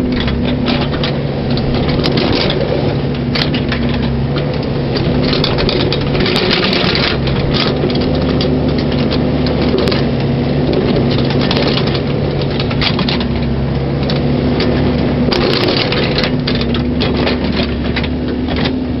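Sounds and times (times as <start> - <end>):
crunching and scraping of soil: 0.0 - 19.0
excavator engine running: 0.0 - 19.0.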